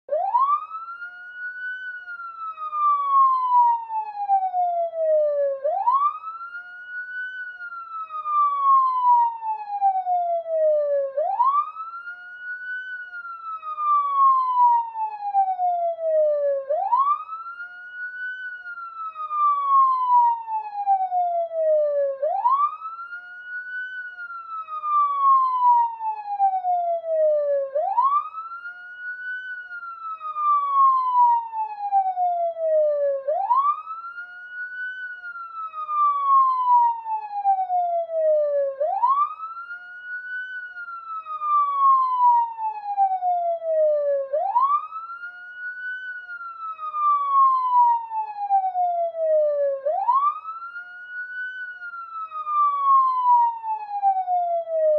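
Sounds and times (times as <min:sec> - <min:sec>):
police siren wailing: 0:00.1 - 0:54.9.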